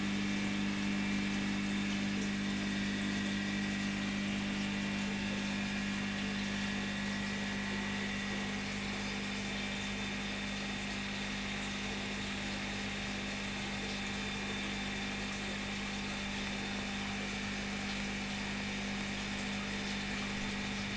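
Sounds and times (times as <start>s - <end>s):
aquarium pump humming: 0.0s - 20.9s.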